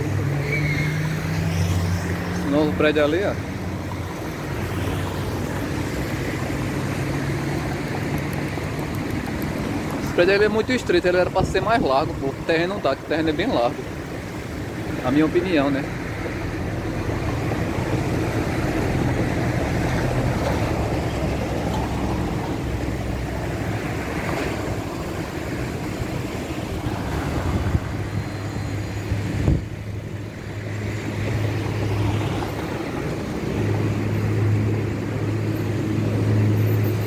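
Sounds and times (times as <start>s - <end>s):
rumble of passing cars: 0.0s - 37.0s.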